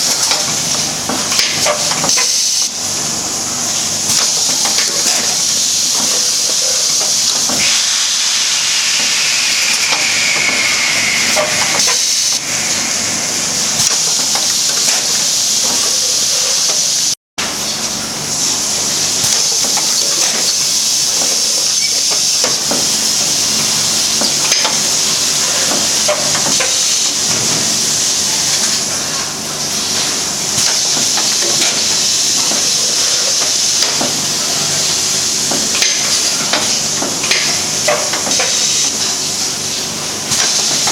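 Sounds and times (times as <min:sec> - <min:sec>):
packing machine hissing: 0:00.0 - 0:40.9.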